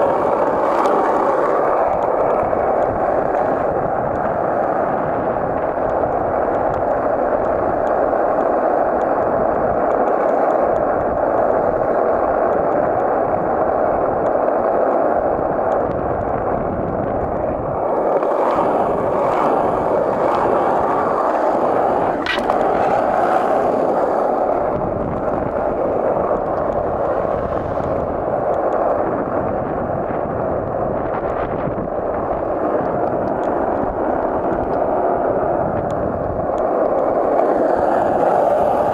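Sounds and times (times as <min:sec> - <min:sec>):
skateboard wheels rolling on asphalt: 0:00.0 - 0:38.9.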